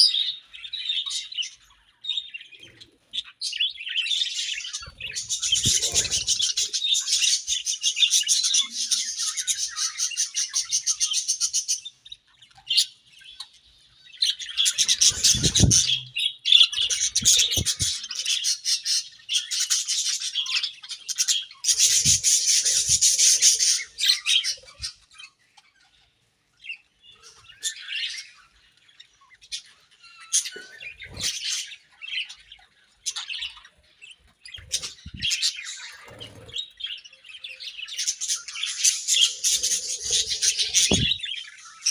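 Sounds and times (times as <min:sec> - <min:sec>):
budgerigars chattering: 0:02.2 - 0:11.9, 0:14.2 - 0:26.0, 0:29.5 - 0:41.9.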